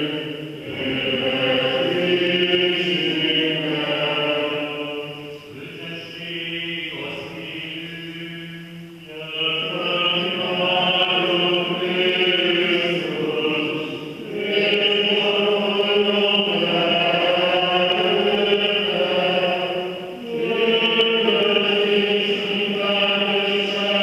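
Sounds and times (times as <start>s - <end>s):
liturgical chant singing: 0.0s - 24.0s.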